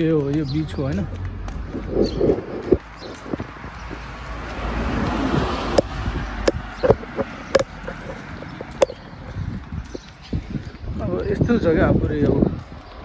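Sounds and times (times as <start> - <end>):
footsteps on paving: 0.0 - 13.0.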